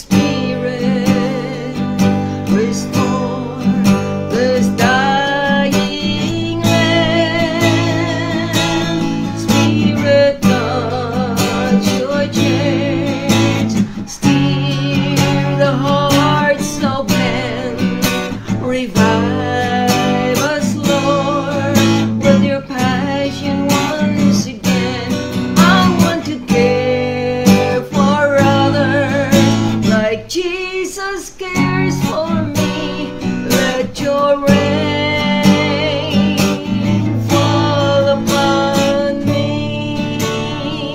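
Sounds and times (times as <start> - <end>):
strummed acoustic guitar: 0.0 - 40.9
woman singing with vibrato: 0.0 - 40.9.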